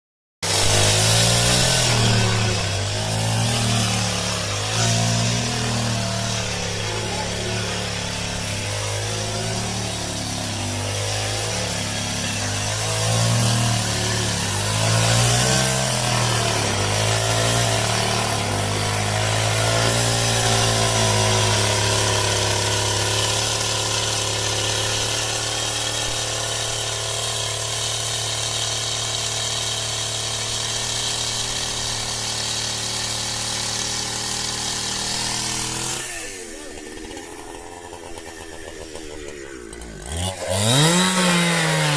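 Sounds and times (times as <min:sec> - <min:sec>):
chainsaw running: 0:00.4 - 0:41.9.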